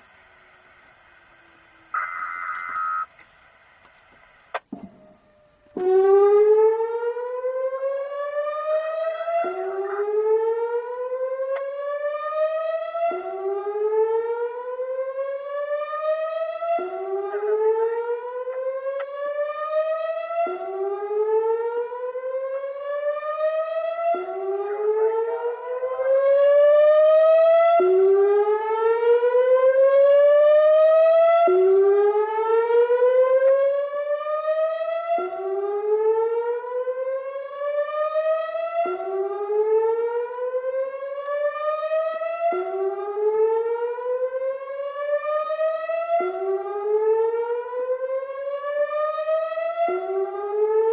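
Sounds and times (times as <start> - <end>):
warning siren whooping: 1.9 - 3.1, 5.8 - 50.9.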